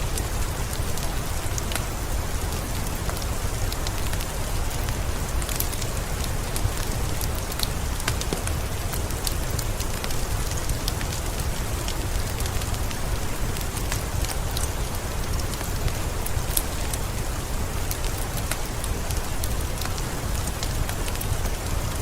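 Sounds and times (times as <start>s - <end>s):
heavy rain falling: 0.0s - 22.0s
raindrops ticking: 0.0s - 22.0s.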